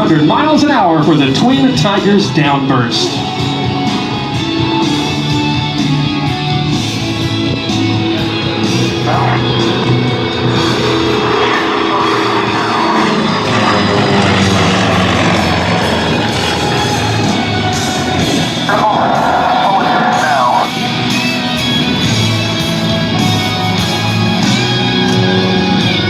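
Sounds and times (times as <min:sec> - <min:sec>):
rock music over loudspeakers: 0:00.0 - 0:26.0.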